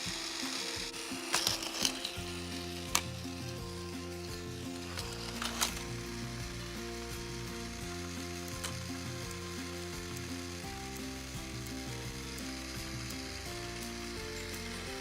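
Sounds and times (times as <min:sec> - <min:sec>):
background music tune: 0:00.0 - 0:15.0.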